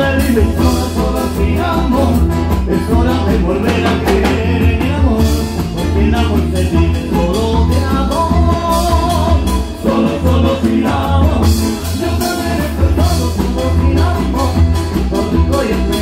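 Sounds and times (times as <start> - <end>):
acoustic guitar: 0.0 - 16.0
bandoneon melody: 0.0 - 16.0
electric bass: 0.0 - 16.0
percussion beat: 0.0 - 16.0.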